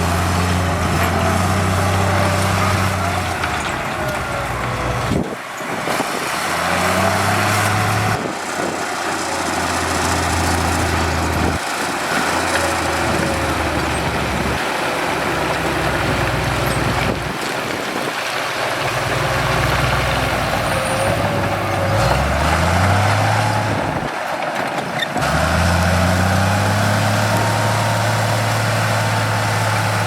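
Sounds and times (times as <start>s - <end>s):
heavy machinery diesel engines: 0.0s - 30.0s.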